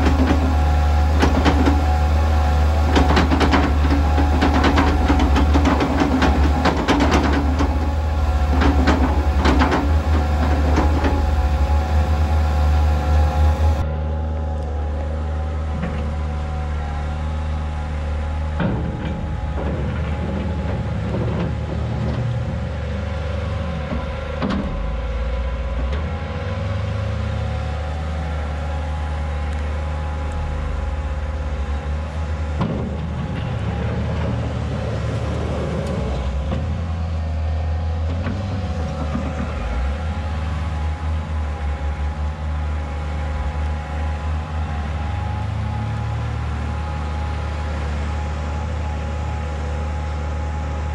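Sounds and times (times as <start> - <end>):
diesel engines droning: 0.0 - 50.9.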